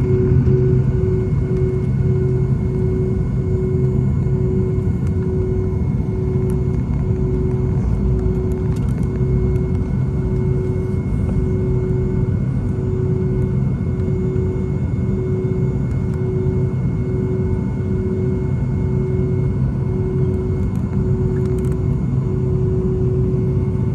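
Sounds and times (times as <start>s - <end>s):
pulsing mid-pitched tone: 0.0s - 21.5s
aircraft cabin engine rumble: 0.0s - 23.9s.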